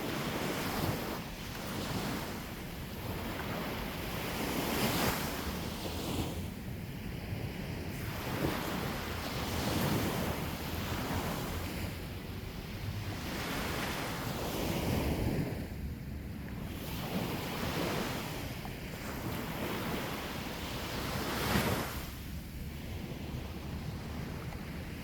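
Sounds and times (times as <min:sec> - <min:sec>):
sea waves breaking on shore: 0:00.0 - 0:25.0
wind rumbling on microphone: 0:00.0 - 0:25.0.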